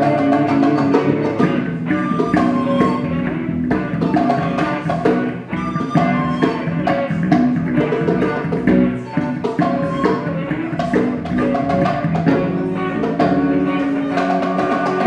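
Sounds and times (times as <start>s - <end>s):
electric bass: 0.0s - 15.0s
electric guitar: 0.0s - 15.0s
wooden flute melody: 0.0s - 15.0s.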